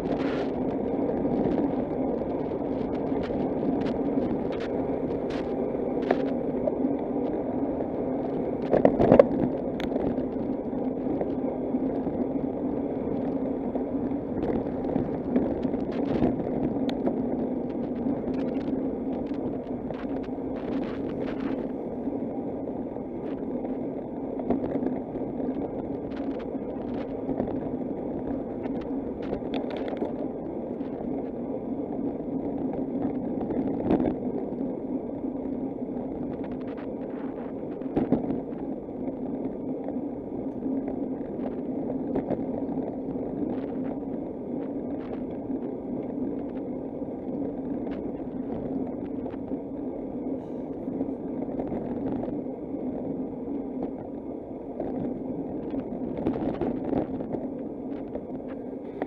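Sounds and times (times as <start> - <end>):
bicycle tyres rolling rumble: 0.0 - 59.0.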